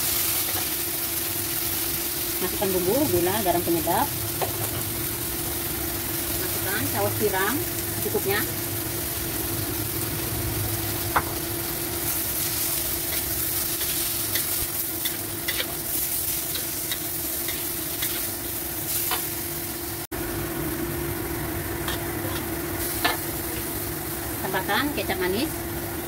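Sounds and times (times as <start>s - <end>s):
food sizzling in a wok: 0.0s - 26.0s.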